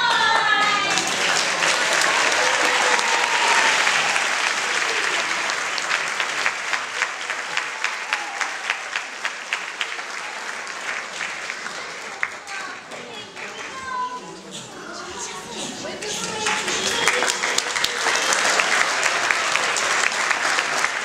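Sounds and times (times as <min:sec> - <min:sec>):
audience applauding: 0:00.0 - 0:14.2, 0:15.8 - 0:21.0.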